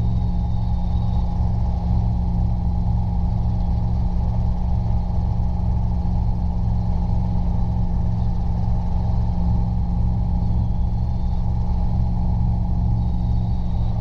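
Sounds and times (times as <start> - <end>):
helicopter engine and rotors droning: 0.0 - 14.0.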